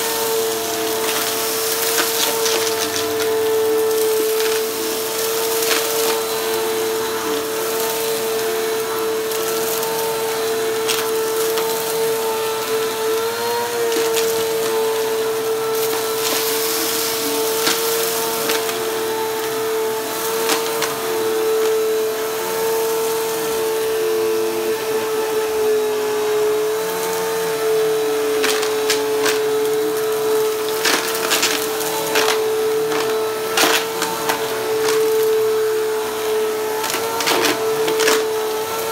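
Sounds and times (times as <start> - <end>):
vacuum cleaner motor whine: 0.0 - 38.9
debris rattling into vacuum: 0.1 - 22.7, 28.2 - 38.9.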